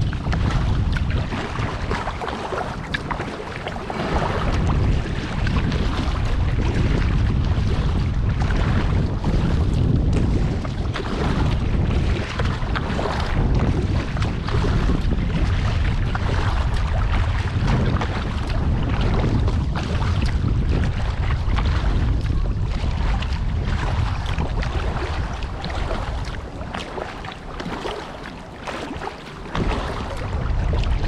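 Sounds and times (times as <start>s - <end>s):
water splashing around kayak: 0.0s - 31.0s
wind buffeting microphone: 0.0s - 31.0s.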